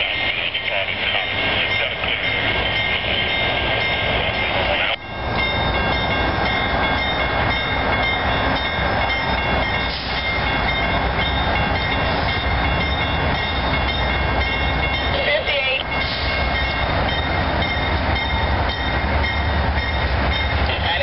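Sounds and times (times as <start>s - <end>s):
crossing bells ringing: 0.0s - 21.0s
low rumble of train: 0.0s - 21.0s.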